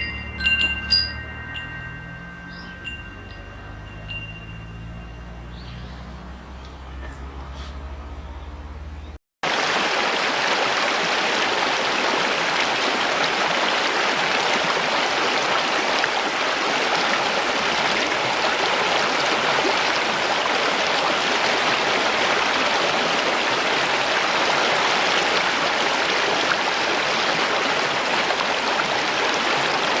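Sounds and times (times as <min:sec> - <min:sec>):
stream water flowing: 0:00.0 - 0:05.5, 0:09.4 - 0:30.0.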